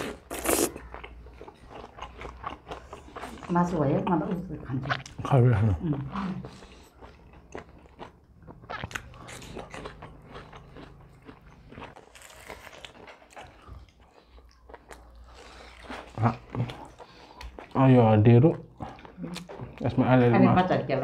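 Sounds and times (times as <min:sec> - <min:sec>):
people chewing food: 0:00.0 - 0:21.0.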